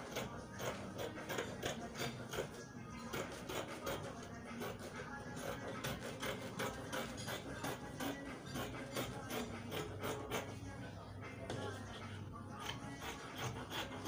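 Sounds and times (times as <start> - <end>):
scissors snipping fabric: 0.0 - 10.5, 12.6 - 14.0.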